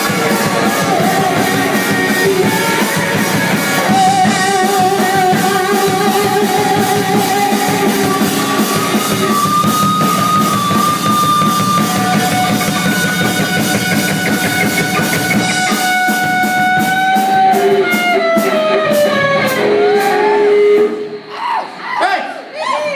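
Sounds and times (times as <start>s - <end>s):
live rock band playing: 0.0s - 21.3s.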